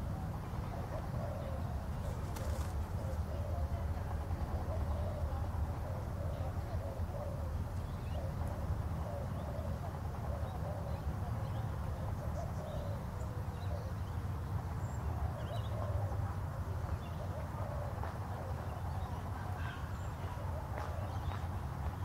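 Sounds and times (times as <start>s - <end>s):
faint wavering murmur: 0.0s - 22.0s.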